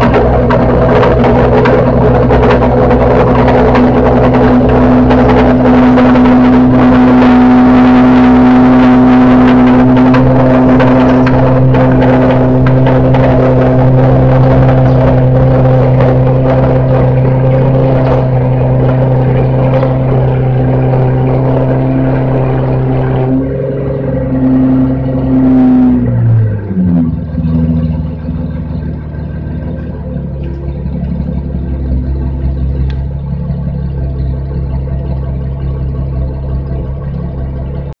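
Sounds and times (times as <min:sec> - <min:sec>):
car engine revving and idling: 0:00.0 - 0:38.0.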